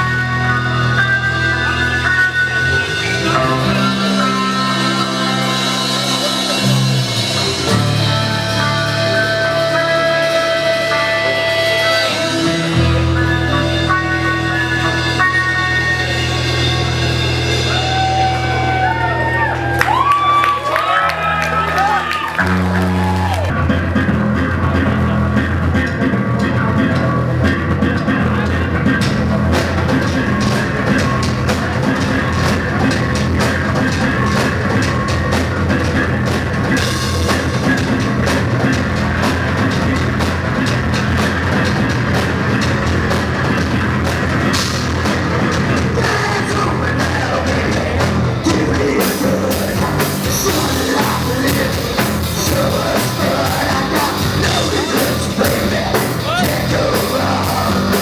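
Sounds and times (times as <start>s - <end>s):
crowd: 0.0s - 58.0s
live rock band playing: 0.0s - 58.0s.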